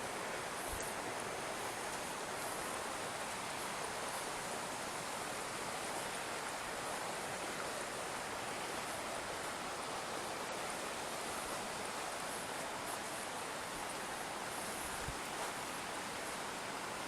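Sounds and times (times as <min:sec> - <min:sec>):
water flowing in a canal: 0:00.0 - 0:17.0.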